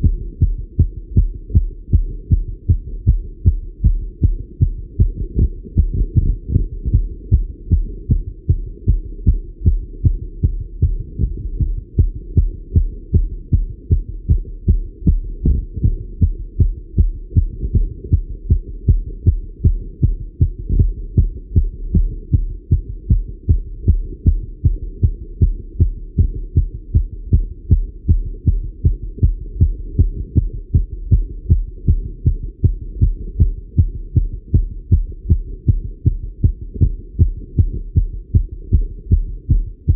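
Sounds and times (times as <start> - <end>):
fast heartbeat through stethoscope: 0.0 - 39.9.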